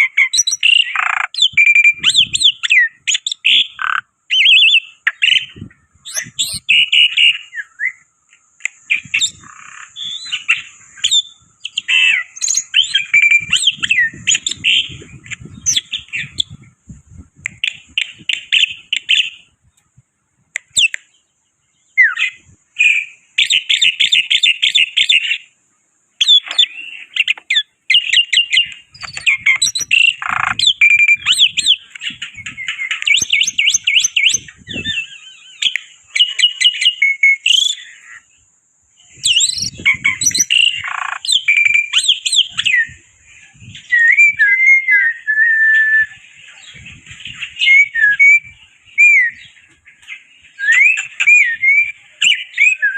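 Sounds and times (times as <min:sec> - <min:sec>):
starling chattering and whistling: 0:00.0 - 0:16.8, 0:17.4 - 0:19.6, 0:22.0 - 0:25.5, 0:26.2 - 0:38.3, 0:39.1 - 0:52.9
steady high-pitched hiss: 0:00.0 - 0:52.9.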